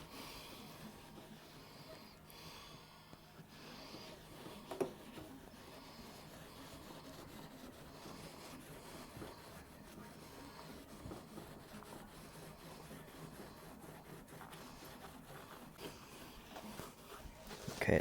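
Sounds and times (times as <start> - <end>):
cloth scrubbing a surface: 0.0 - 2.2, 3.3 - 18.0.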